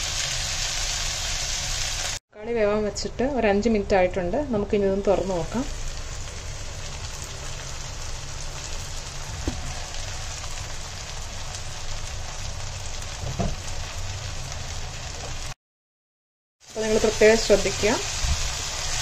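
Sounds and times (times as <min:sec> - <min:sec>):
vegetables sizzling in oil: 0:00.0 - 0:02.2, 0:04.5 - 0:15.6, 0:16.6 - 0:19.0.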